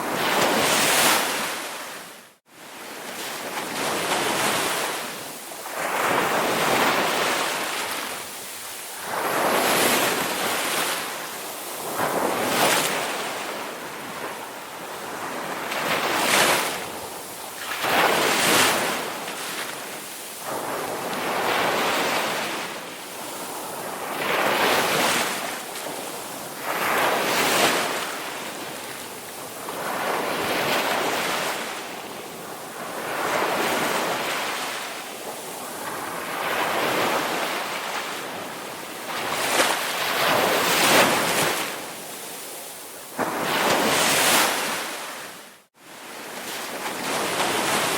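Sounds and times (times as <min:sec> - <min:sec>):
ocean waves breaking on shore: 0:00.0 - 0:47.9.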